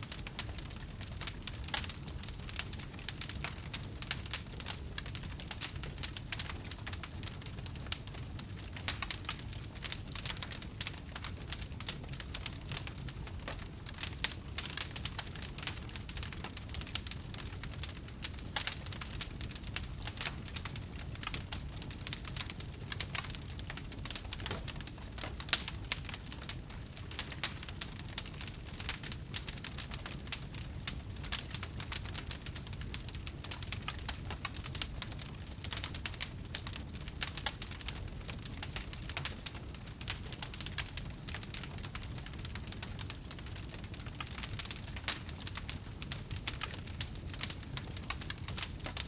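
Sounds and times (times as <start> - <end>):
low rumble of flames: 0.0 - 49.0
wood fire crackling: 0.0 - 49.0.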